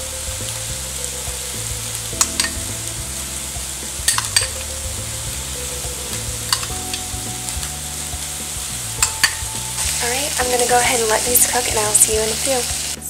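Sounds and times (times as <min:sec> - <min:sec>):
food sizzling in a frying pan: 0:00.2 - 0:13.0.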